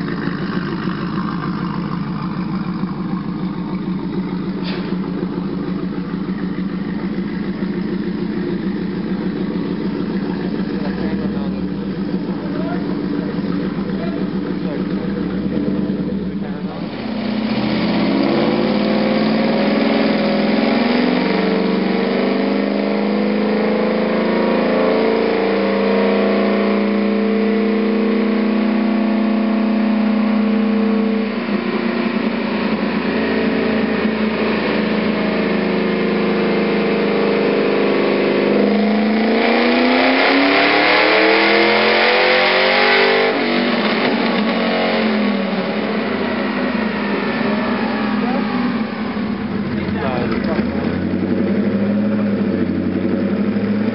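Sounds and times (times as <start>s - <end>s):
truck engine revving on dyno: 0.0s - 53.9s.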